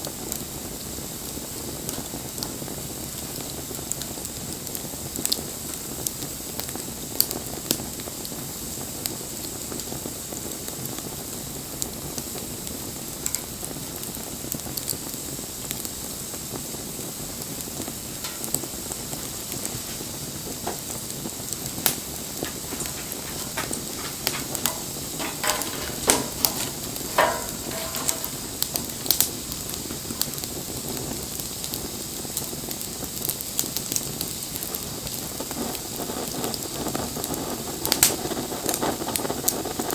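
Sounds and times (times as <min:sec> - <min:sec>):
fire crackles and pops: 0:00.0 - 0:39.9
wood fire hissing and sizzling: 0:00.0 - 0:39.9.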